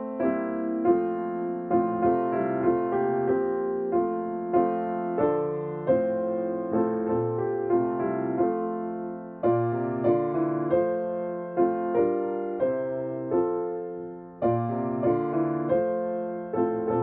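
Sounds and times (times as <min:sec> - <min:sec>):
solo piano playing a carol: 0:00.0 - 0:17.0.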